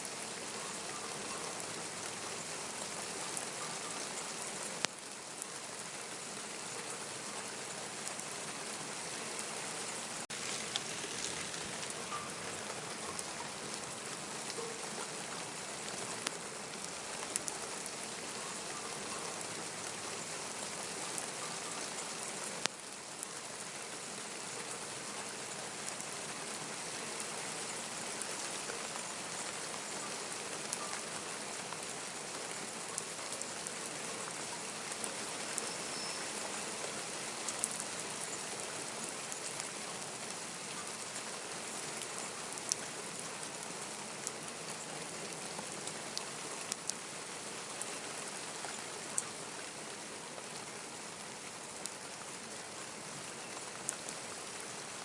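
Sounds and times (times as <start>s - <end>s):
rain pattering on surfaces: 0.0s - 55.0s.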